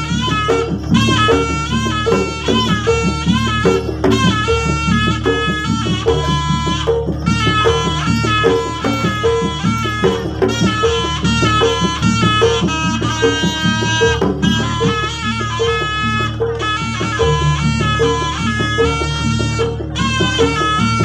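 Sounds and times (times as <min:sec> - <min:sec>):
gamelan music: 0:00.0 - 0:21.0.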